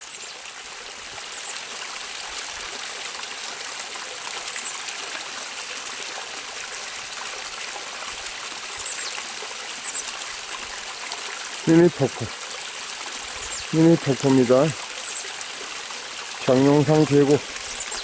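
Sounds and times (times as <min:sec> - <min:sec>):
water splashing over rocks: 0:00.2 - 0:18.0.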